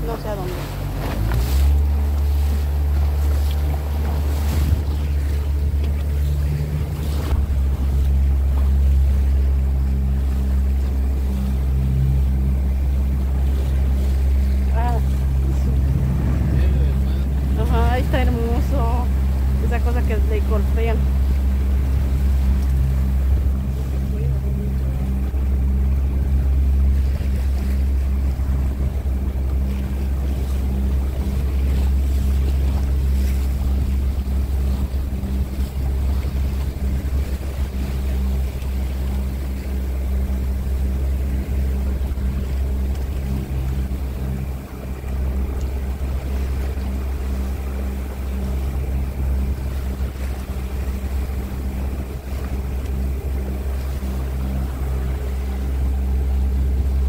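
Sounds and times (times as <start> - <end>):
motorboat engine droning: 0.0 - 57.0
wind and water hiss: 0.0 - 57.0.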